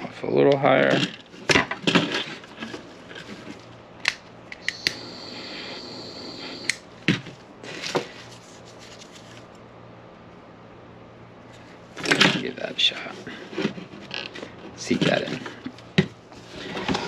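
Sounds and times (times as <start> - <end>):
low steady hum: 2.4 - 17.0.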